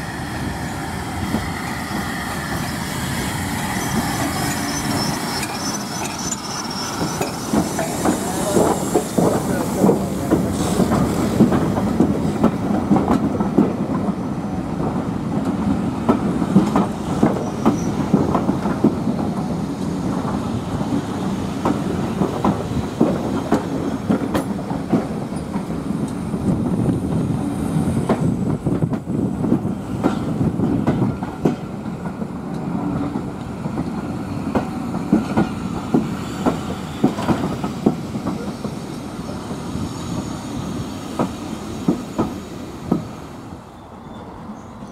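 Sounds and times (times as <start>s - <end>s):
train rumble: 0.0s - 44.9s
train wheels clicking over rail joints: 1.2s - 14.2s, 14.8s - 27.3s, 27.9s - 43.2s.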